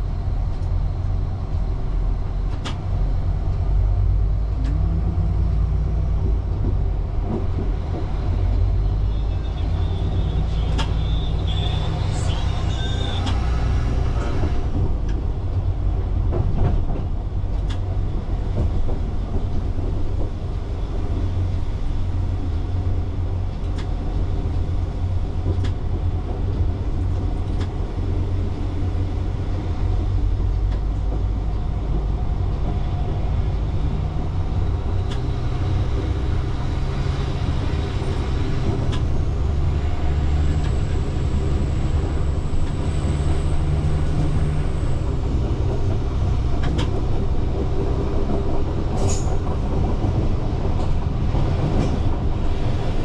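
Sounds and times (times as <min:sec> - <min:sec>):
railcar engine drone: 0:00.0 - 0:53.0
wheels on the track: 0:00.0 - 0:53.0.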